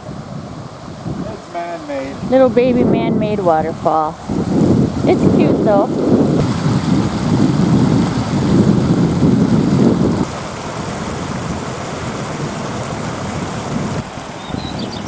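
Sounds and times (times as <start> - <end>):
water rushing over waterfall: 0.0 - 4.4, 5.0 - 15.0.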